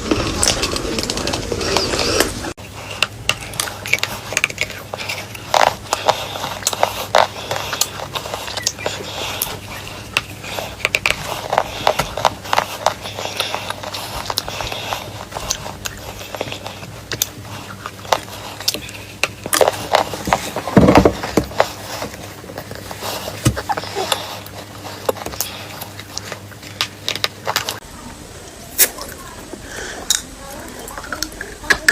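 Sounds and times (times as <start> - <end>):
chalk crunching: 0.0 - 27.8.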